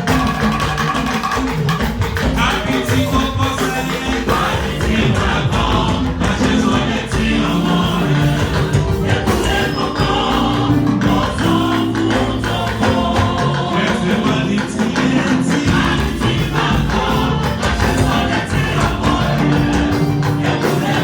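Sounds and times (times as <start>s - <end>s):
instruments with steady beat: 0.0s - 21.0s
church choir singing: 2.4s - 21.0s.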